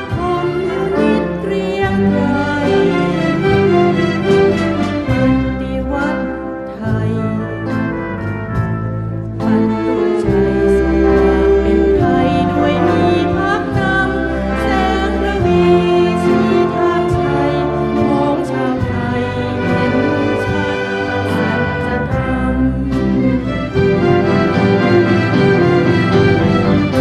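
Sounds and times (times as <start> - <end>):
orchestral music: 0.0 - 27.0.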